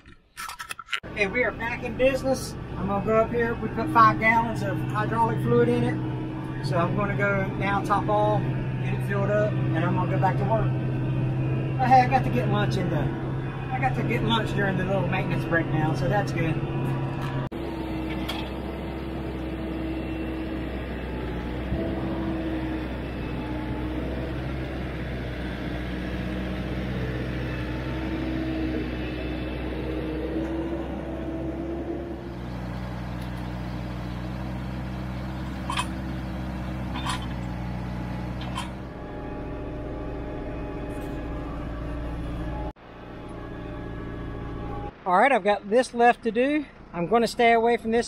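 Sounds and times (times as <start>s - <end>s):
tractor diesel engine running: 1.0s - 48.0s.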